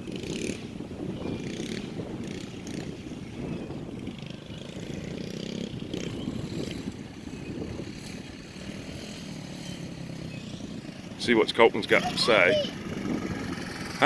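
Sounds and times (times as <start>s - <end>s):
distant dirt bike engine: 0.0s - 14.0s.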